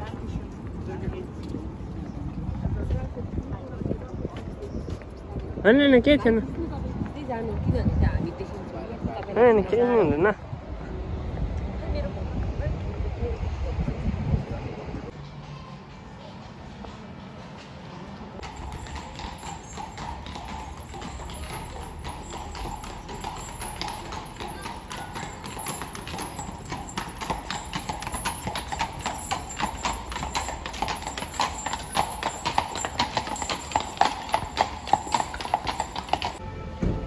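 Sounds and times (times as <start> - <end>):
hooves clip-clopping on asphalt: 0.0 - 10.1, 16.7 - 36.4.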